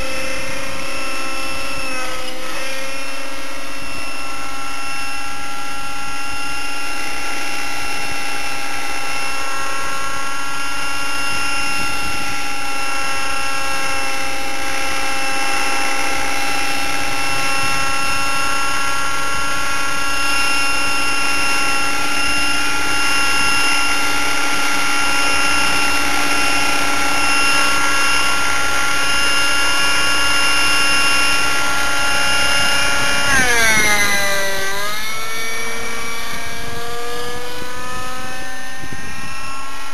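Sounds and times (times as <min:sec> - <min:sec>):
model helicopter engine running: 0:00.0 - 0:39.9.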